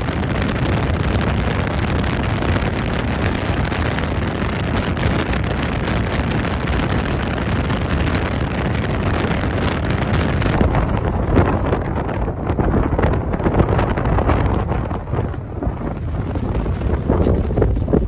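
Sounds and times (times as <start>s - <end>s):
strong wind on microphone: 0.0s - 18.0s.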